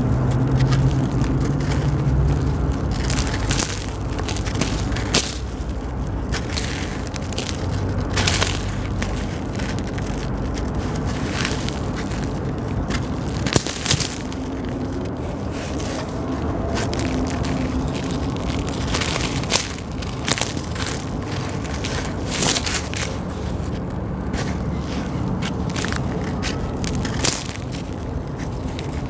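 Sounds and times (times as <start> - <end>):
cement chunks crunching by hand: 0.0 - 29.0.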